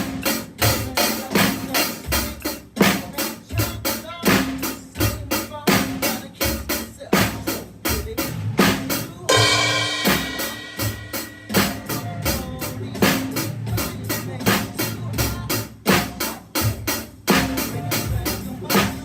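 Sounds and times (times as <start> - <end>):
drum kit funk beat: 0.0 - 19.0.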